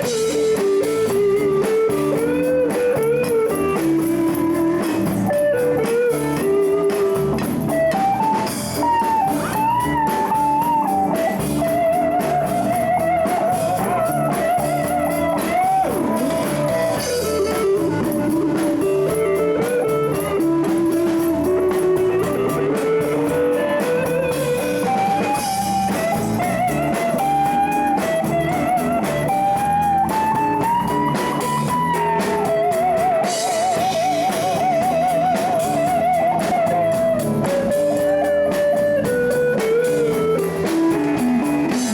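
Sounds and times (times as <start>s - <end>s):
blues band with drum kit: 0.0s - 41.9s
lead guitar solo: 0.0s - 41.9s.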